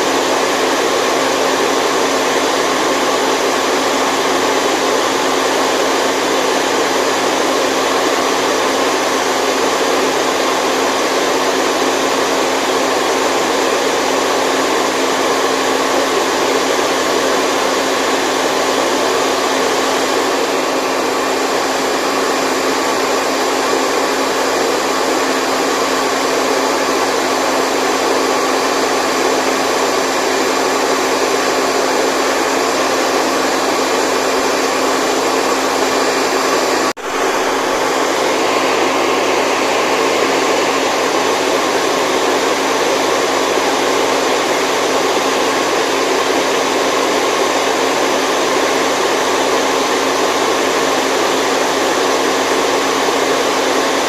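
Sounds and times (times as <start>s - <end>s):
hair dryer or fan running: 0.0s - 54.0s.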